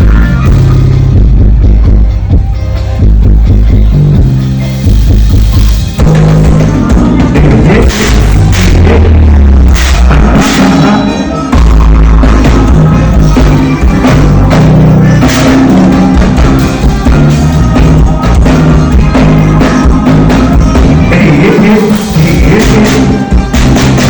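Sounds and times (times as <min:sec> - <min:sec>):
drum kit hitting: 0:00.0 - 0:24.0
rock band playing live: 0:00.0 - 0:24.0
sustained bass notes: 0:00.0 - 0:24.0.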